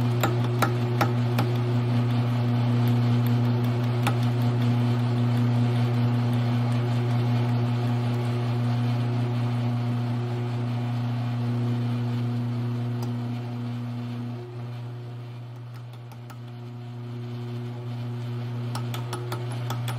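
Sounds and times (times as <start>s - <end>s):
drill press motor humming: 0.0s - 19.9s.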